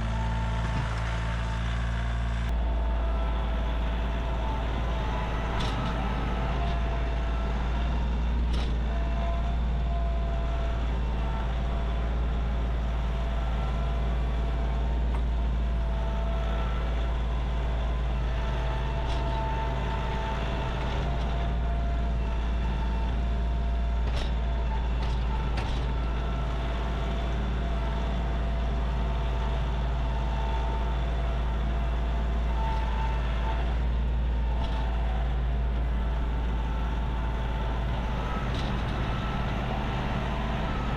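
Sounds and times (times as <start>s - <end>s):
large engine rumbling: 0.0s - 40.9s.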